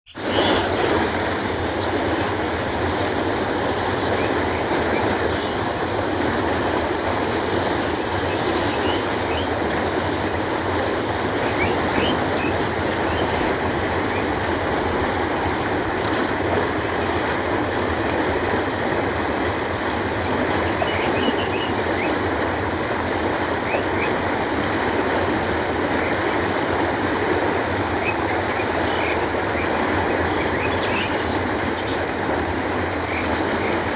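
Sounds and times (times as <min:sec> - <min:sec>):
water rushing along a canal: 0:00.1 - 0:33.9.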